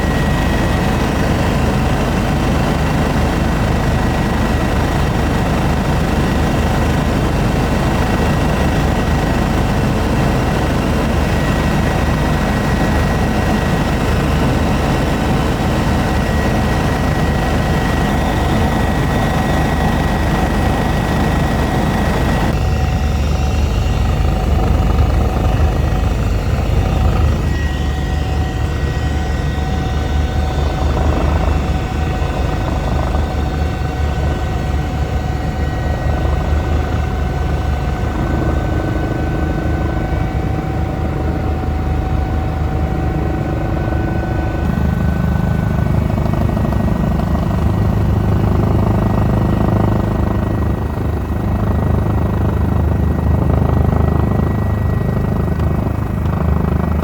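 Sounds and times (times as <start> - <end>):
helicopter rotor and turbine noise: 0.0 - 57.0.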